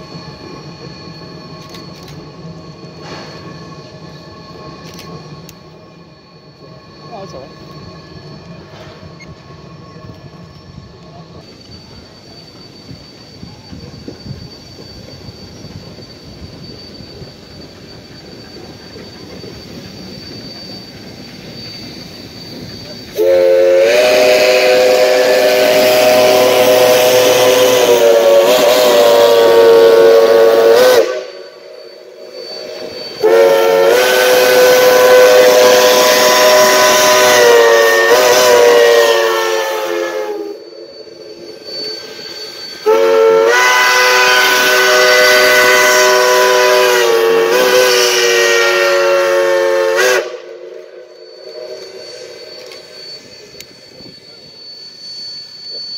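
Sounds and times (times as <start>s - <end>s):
steam locomotive low rumble: 0.0s - 55.9s
steam locomotive whistle blasts: 0.0s - 55.9s.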